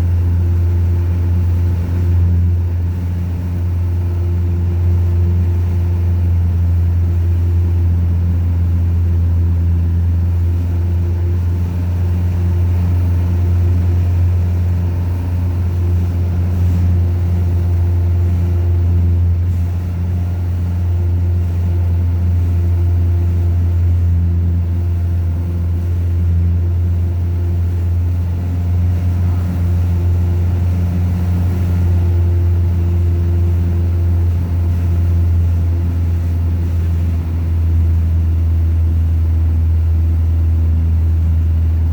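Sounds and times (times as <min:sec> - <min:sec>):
aircraft engine and propeller droning: 0:00.0 - 0:41.9.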